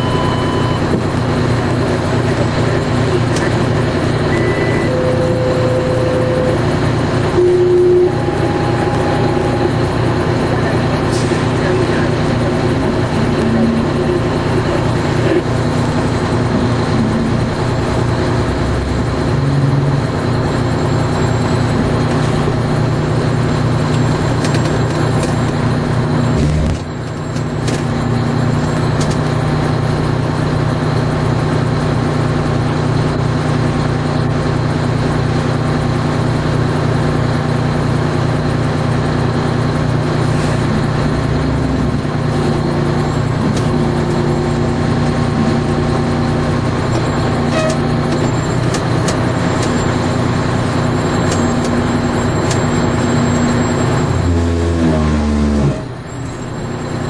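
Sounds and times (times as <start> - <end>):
large vehicle engine running: 0.0 - 57.0.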